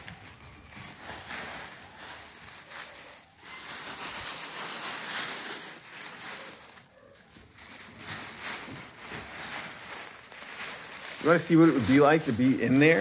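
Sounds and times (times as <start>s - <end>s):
tissue paper crinkling and rustling: 0.0s - 13.0s.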